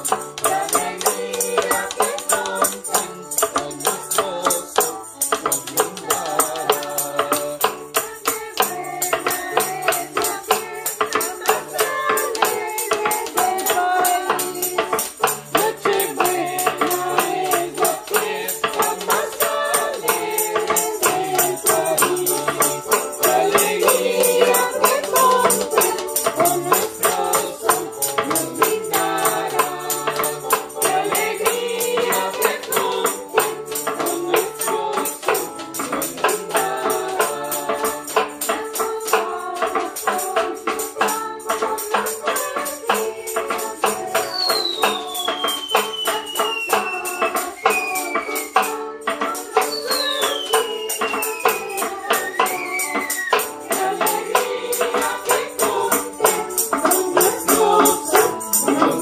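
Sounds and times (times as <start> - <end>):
choir singing: 0.0 - 59.0
electronic keyboard: 0.0 - 59.0
hand percussion beat: 0.0 - 59.0.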